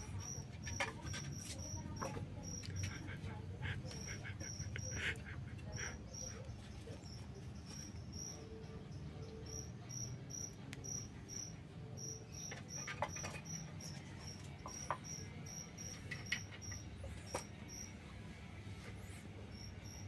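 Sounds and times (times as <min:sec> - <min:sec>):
cricket chirping: 0:00.0 - 0:18.0, 0:19.0 - 0:20.0.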